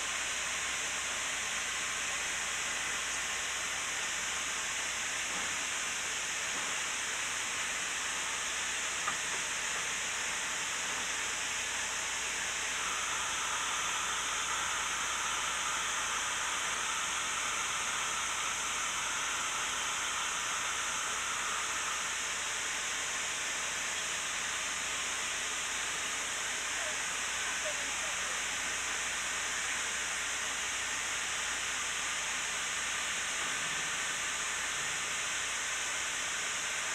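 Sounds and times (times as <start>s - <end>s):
steam hissing: 0.0s - 36.9s.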